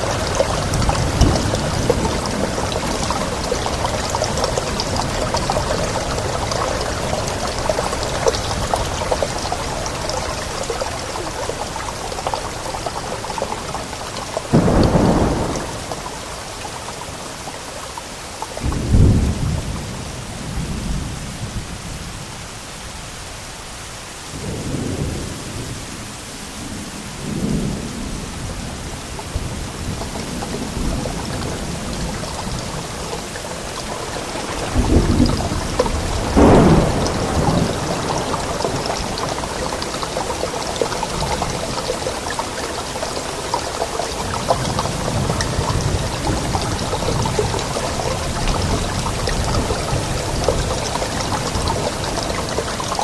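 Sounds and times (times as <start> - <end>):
thunder rumbling: 0.0 - 17.2, 27.2 - 53.0
steady rain: 0.0 - 53.0.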